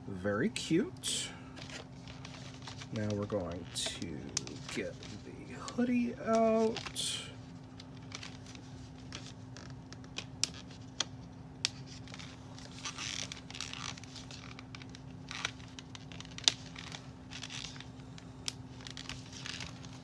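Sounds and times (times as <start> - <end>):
steady low hum: 0.0 - 20.0
plastic packaging rustling: 1.1 - 20.0.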